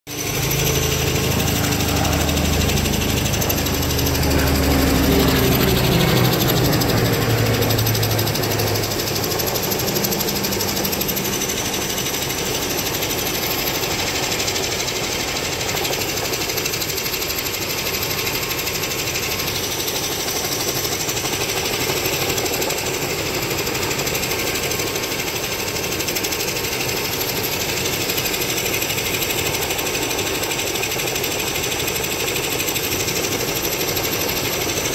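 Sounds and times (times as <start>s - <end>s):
helicopter rotor chopping: 0.1s - 34.9s.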